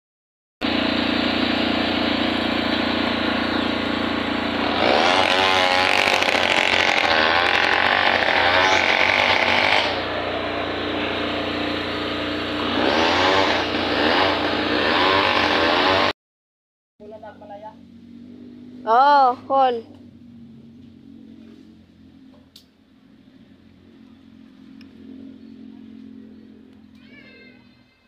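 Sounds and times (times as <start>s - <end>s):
small engine running: 0.6s - 16.2s, 17.0s - 28.0s.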